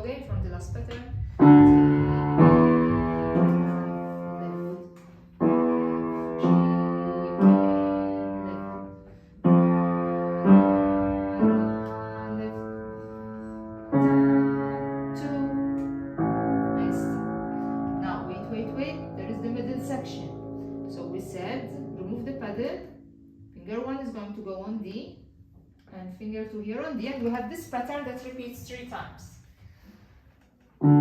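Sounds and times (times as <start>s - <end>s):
piano chords: 0.0s - 25.8s, 30.8s - 31.0s.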